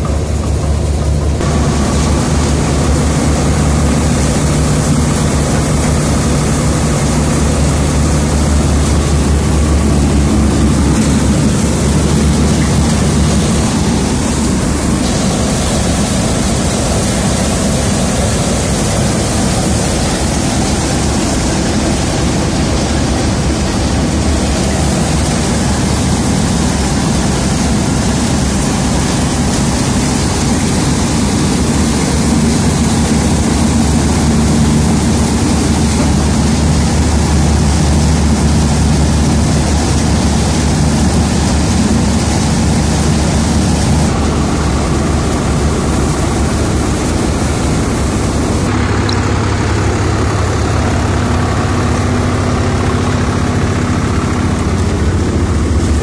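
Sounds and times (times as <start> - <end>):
grain thresher running: 0.0 - 56.0.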